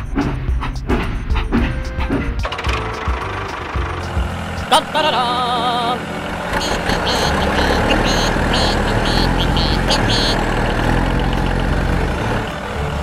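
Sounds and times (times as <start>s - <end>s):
tractor diesel engine droning: 2.4s - 13.0s.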